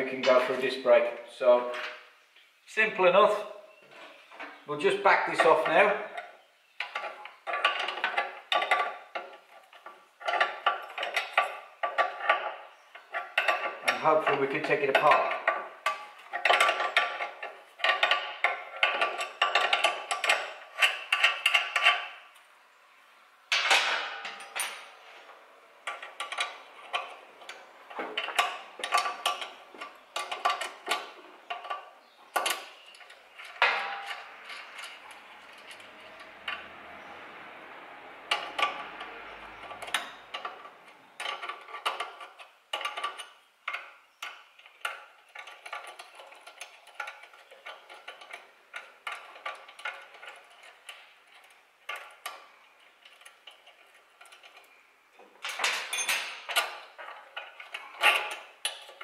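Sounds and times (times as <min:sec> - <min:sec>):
tools and steel parts clicking: 0:05.3 - 0:22.5, 0:23.5 - 0:25.0, 0:25.8 - 0:37.1, 0:38.2 - 0:54.8, 0:55.4 - 0:59.0.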